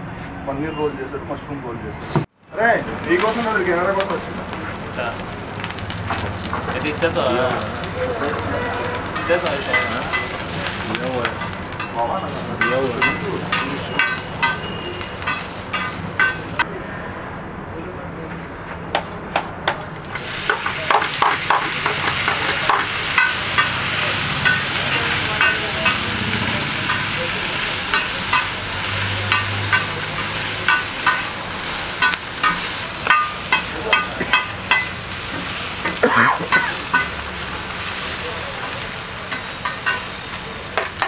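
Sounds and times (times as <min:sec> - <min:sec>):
food sizzling on a griddle: 0:02.4 - 0:16.7, 0:20.0 - 0:41.0.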